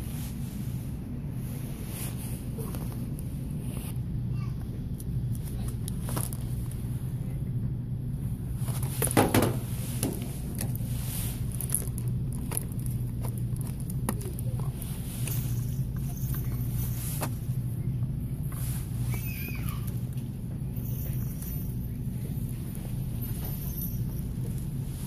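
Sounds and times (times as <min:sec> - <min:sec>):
low store hum: 0:00.0 - 0:25.0.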